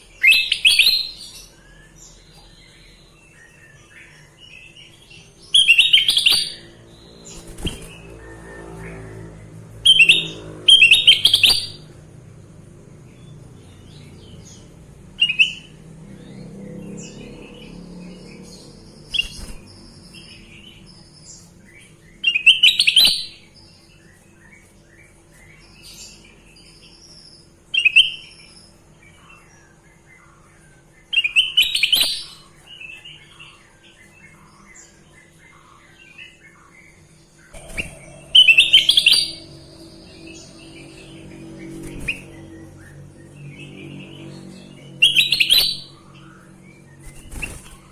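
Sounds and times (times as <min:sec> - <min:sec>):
soft bird twittering: 0:00.0 - 0:12.0, 0:13.0 - 0:47.9
bird chirping: 0:00.0 - 0:47.9.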